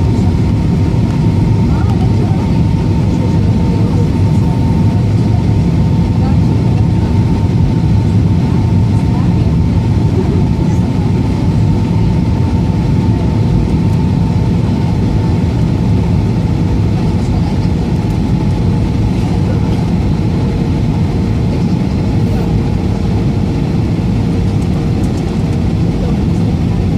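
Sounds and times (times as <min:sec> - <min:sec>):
airplane cabin engine rumble: 0:00.0 - 0:26.9.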